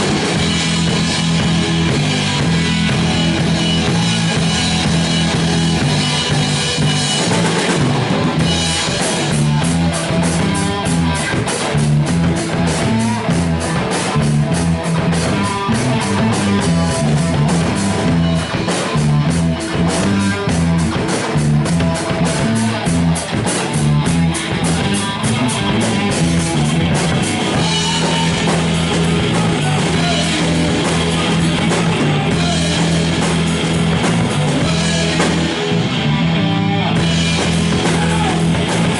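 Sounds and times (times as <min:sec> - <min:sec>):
bass: 0:00.0 - 0:38.9
drum kit: 0:00.0 - 0:38.9
electric guitar: 0:00.0 - 0:38.9.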